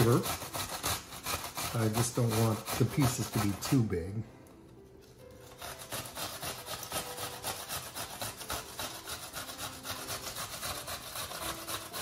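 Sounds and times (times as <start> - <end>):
onion rasping on a grater: 0.0 - 4.2, 5.4 - 12.0.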